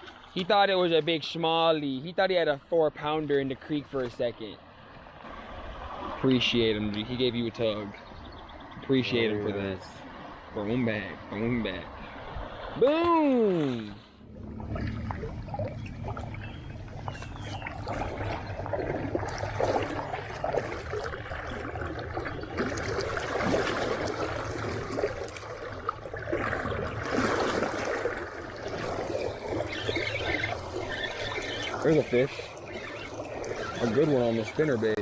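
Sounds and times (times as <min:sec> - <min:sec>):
creek water trickling: 0:00.0 - 0:35.0
small water splashes: 0:03.0 - 0:35.0.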